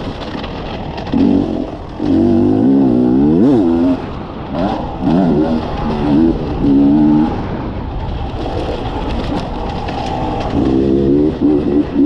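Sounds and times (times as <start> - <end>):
motorcycle engine revving: 1.0 - 7.8, 8.4 - 12.0.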